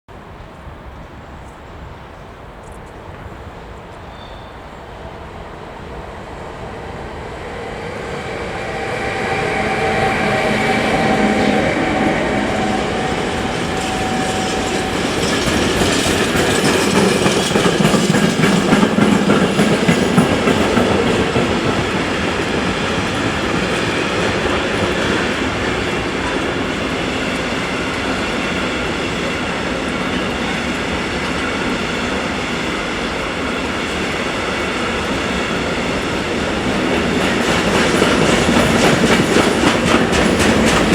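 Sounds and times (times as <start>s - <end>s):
steady whine: 5.1s - 40.8s
train wheels clattering on rails: 5.2s - 40.9s.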